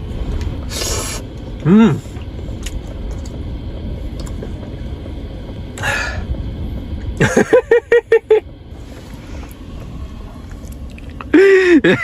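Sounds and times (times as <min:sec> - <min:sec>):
strong wind buffeting vehicle: 0:00.0 - 0:12.0.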